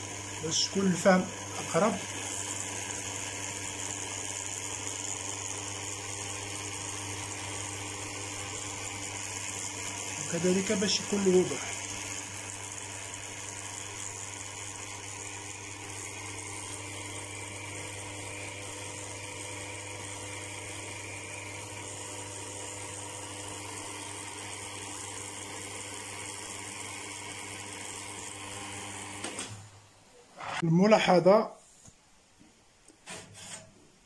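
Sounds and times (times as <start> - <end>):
espresso machine pump humming: 0.0 - 29.5.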